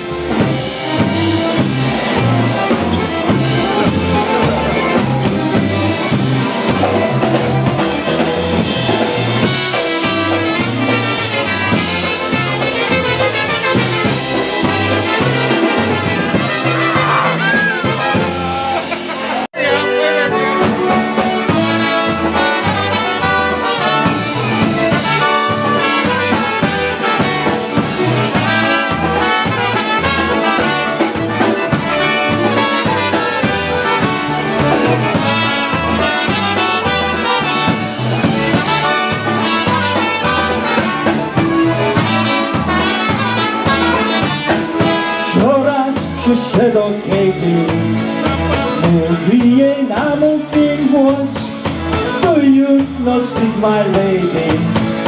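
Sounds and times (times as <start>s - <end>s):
polka band playing: 0.0s - 55.0s
trumpets: 0.0s - 55.0s.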